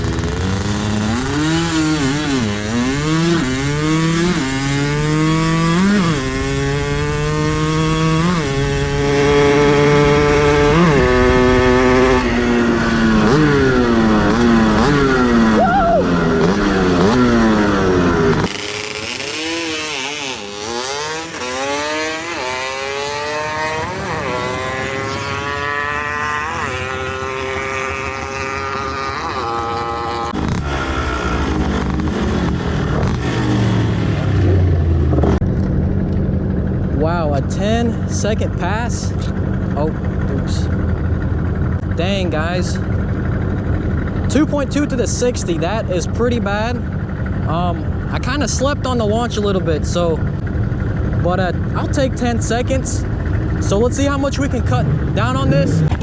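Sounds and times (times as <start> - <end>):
two-stroke engine accelerating: 0.0 - 56.0.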